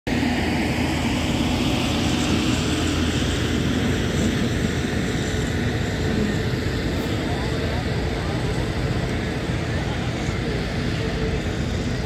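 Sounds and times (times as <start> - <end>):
tractor engine running loudly: 0.1 - 12.0.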